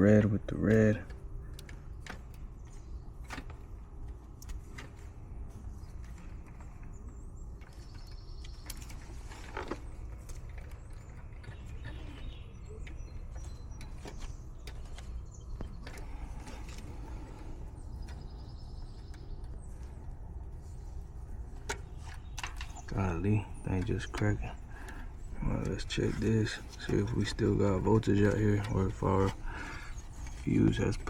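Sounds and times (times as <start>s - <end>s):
clicks of handling electrical wiring: 0.0s - 31.0s.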